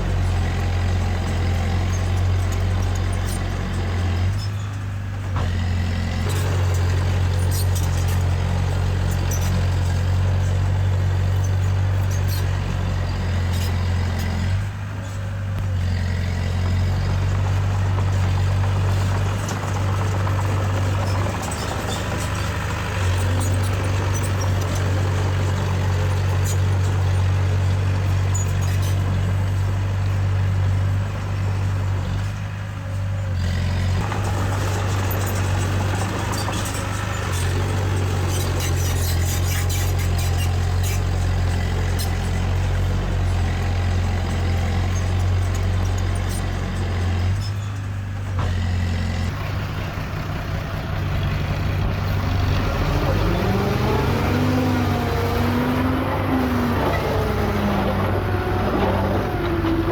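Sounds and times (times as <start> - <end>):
heavy diesel machinery engine: 0.0 - 59.9.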